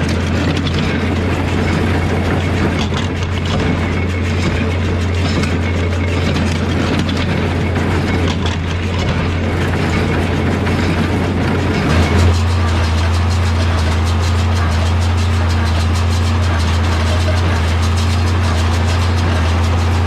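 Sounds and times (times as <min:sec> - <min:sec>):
hay baler working: 0:00.0 - 0:20.0
tractor engine running: 0:00.0 - 0:20.0.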